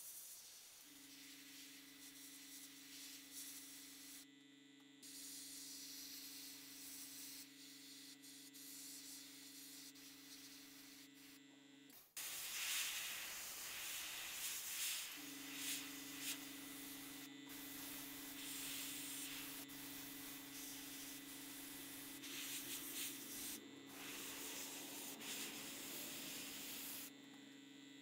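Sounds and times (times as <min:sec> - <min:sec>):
airbrush hissing: 0:00.0 - 0:04.2, 0:05.0 - 0:11.4, 0:12.0 - 0:27.1.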